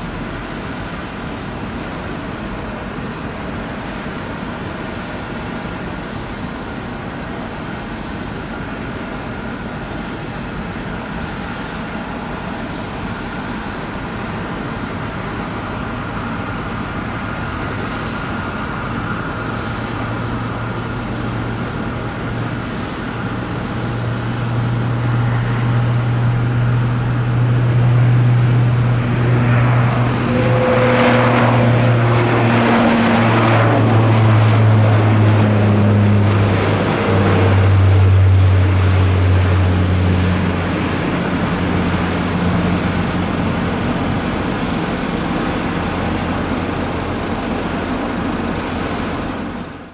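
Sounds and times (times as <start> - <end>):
turboprop aircraft engine drone: 0.0 - 49.9.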